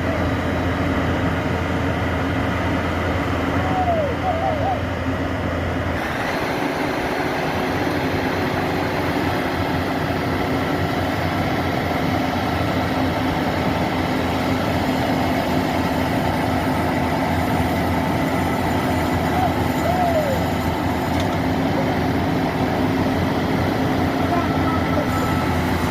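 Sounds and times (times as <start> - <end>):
heavy farm machine engine running: 0.0 - 25.9.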